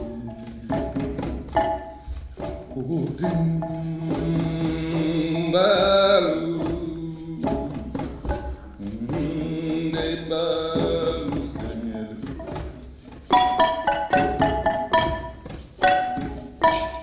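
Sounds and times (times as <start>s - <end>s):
light percussion tapping: 0.0s - 17.0s.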